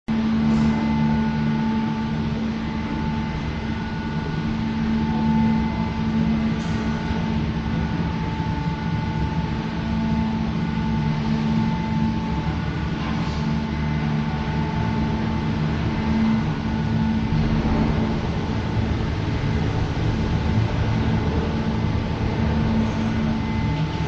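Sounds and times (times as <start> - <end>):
cable car mechanical hum: 0.1 - 24.0.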